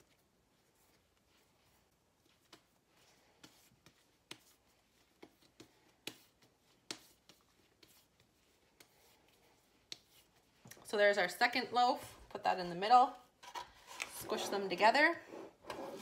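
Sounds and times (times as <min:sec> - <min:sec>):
dough shaped between hands: 0:00.0 - 0:16.0.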